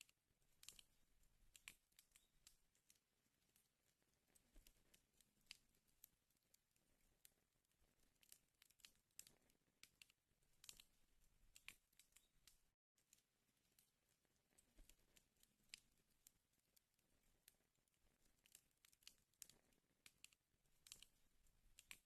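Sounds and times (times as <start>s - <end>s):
wood fire crackling: 0.5s - 12.7s, 13.5s - 22.0s.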